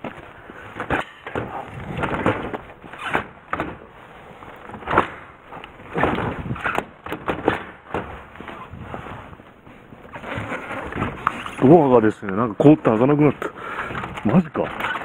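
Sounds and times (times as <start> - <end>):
frozen sliding door rattling: 0.0 - 9.4, 10.1 - 15.0.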